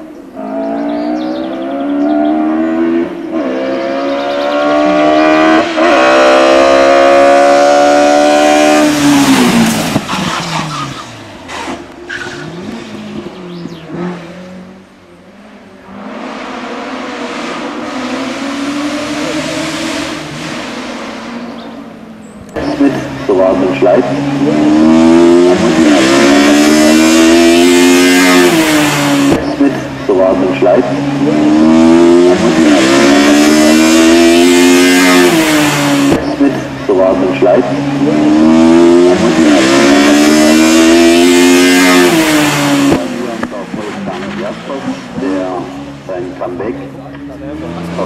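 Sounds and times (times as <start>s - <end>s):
faint racing engine revving: 0.0s - 48.0s
racing car engine at high revs: 0.0s - 48.0s.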